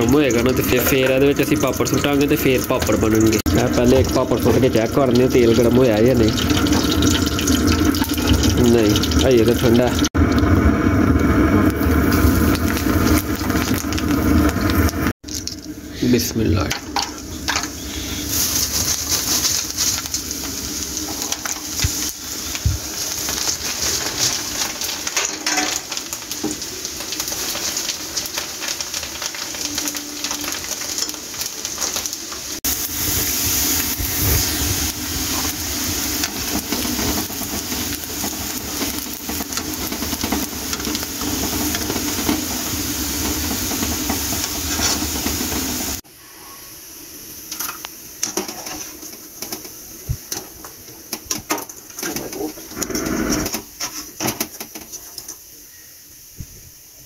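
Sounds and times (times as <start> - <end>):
food frying in hot oil: 0.0 - 57.0.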